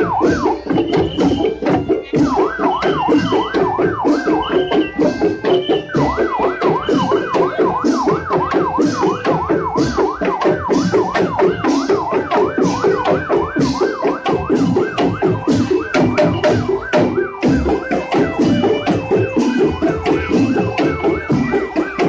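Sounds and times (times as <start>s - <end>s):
loud dance music: 0.0s - 22.0s
pounding drum beat: 0.0s - 22.0s
wailing siren effect: 0.0s - 22.0s.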